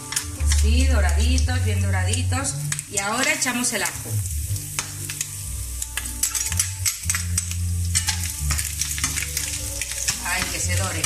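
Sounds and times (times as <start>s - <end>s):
bacon sizzling in frying pan: 0.0s - 11.0s.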